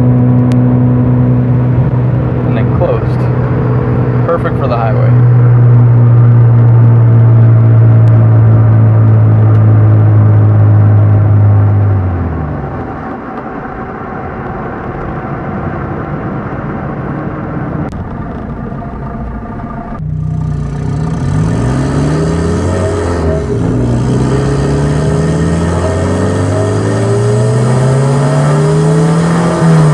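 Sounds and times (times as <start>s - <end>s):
engine revving: 0.0s - 15.4s, 17.3s - 29.9s
car engine droning: 0.0s - 29.9s
road rumble: 0.0s - 29.9s.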